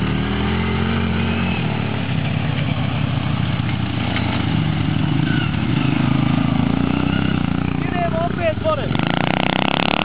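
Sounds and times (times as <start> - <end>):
quad bike engine: 0.0 - 10.0.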